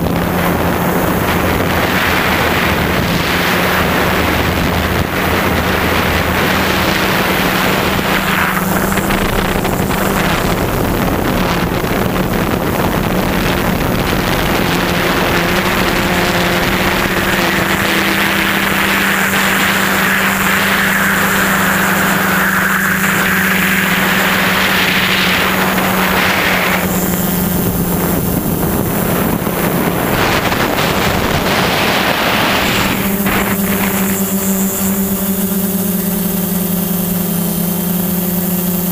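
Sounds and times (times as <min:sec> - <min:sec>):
drone propellers humming: 0:00.0 - 0:38.9
wind rushing over microphone: 0:00.0 - 0:38.9.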